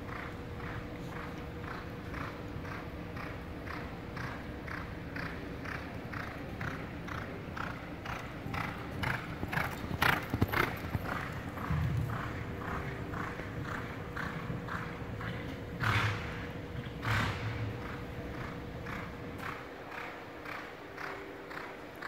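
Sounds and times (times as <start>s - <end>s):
horse hooves loping on soft ground: 0.0s - 22.0s.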